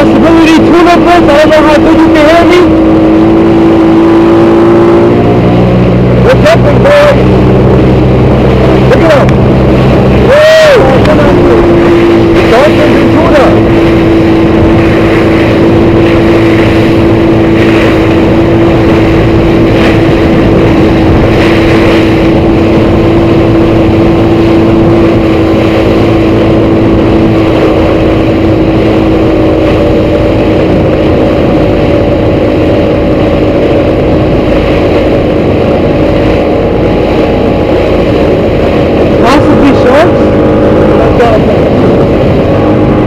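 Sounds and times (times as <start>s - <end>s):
higher engine tone: 0.0s - 43.0s
motorboat engine drone: 0.0s - 43.0s
rush of spray and wind: 0.0s - 43.0s.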